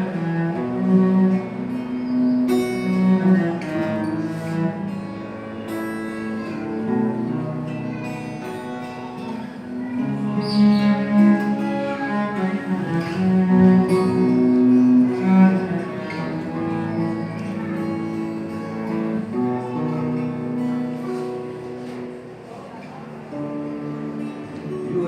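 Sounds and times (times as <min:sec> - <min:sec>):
cello bowed notes: 0:00.0 - 0:22.5, 0:23.3 - 0:25.0
acoustic guitar accompaniment: 0:00.0 - 0:25.0.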